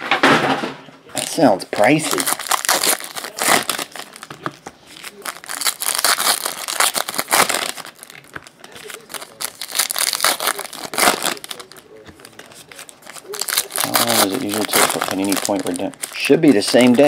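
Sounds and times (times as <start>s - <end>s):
card pack wrappers crinkling: 1.1s - 17.0s.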